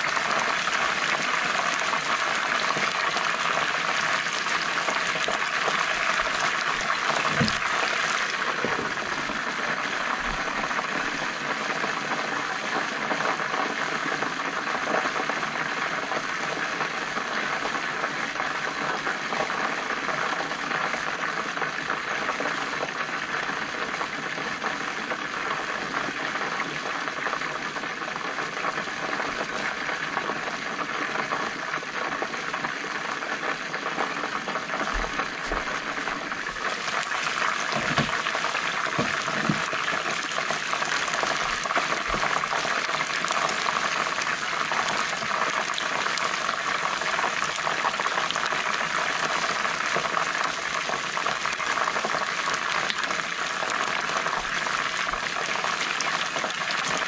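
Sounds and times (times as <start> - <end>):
chicken wings sizzling in oil: 0.0 - 57.0.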